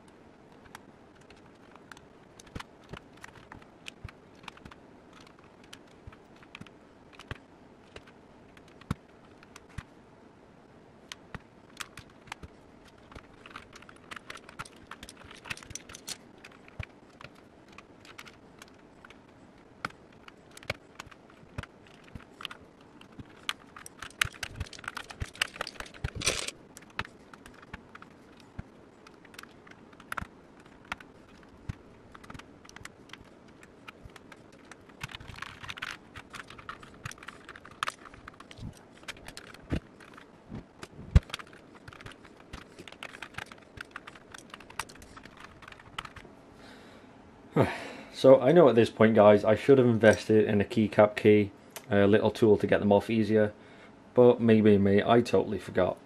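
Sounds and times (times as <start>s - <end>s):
keycaps clicking and clacking: 0.0s - 9.9s, 11.1s - 46.3s.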